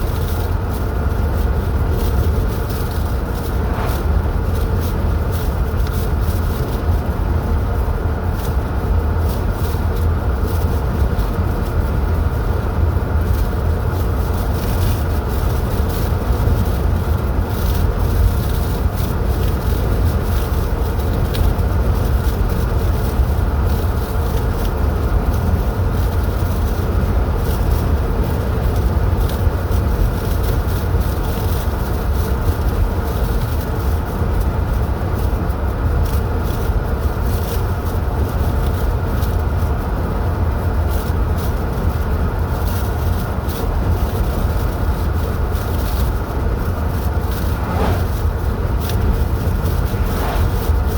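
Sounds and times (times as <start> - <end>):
car engine and tyres rumbling: 0.0 - 50.9.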